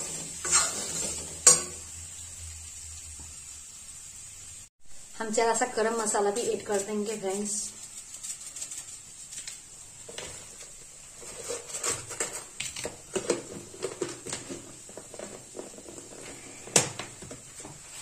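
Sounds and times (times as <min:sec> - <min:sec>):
potatoes frying in oil: 0:00.0 - 0:18.0.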